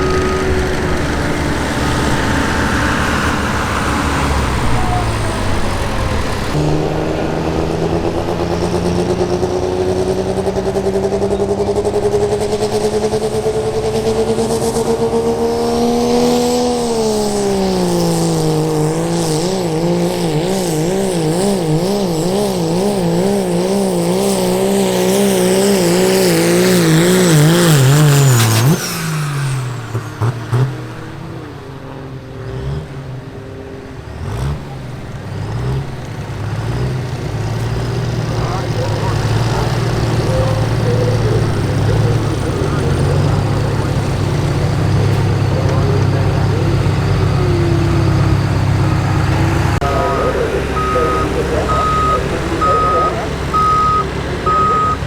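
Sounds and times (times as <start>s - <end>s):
pickup engine at full throttle: 0.0s - 55.0s.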